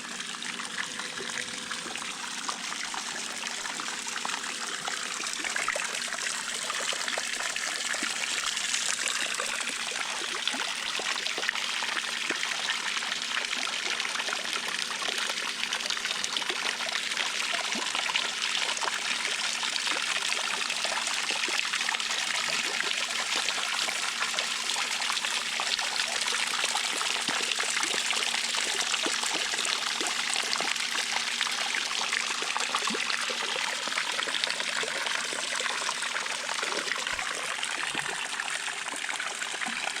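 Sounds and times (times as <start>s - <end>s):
water splashing and trickling: 0.0s - 40.0s.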